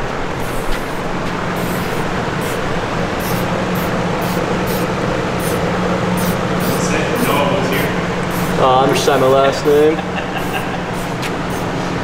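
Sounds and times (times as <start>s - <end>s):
large exhaust fan humming: 0.0s - 12.0s
spray-paint can hissing: 0.4s - 8.6s, 10.2s - 11.8s.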